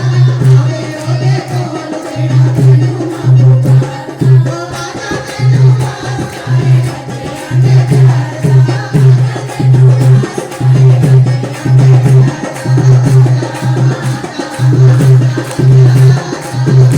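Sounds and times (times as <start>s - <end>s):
hand drum beat: 0.0s - 16.9s.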